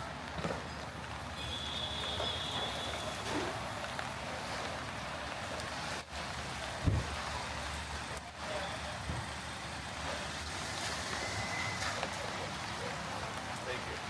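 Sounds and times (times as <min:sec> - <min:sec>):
rain hissing on street: 0:00.0 - 0:14.0
traffic noise: 0:00.0 - 0:14.0.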